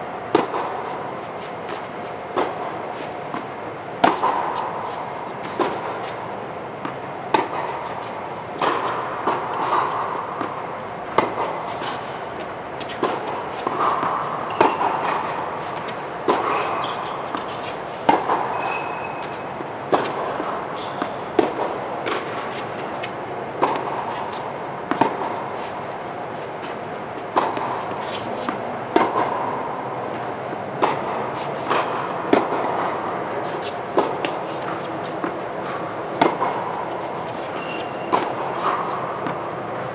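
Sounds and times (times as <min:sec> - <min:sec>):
tennis racquets hitting ball: 0:00.3 - 0:39.6.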